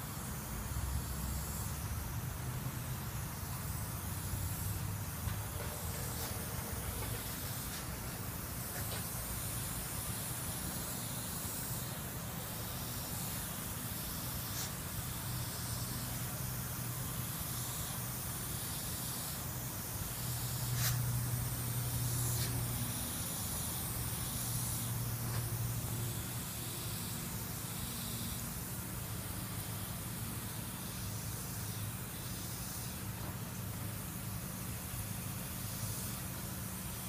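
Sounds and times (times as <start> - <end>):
airbrush spraying hiss: 0.0 - 37.0
steady low hum: 0.0 - 37.0.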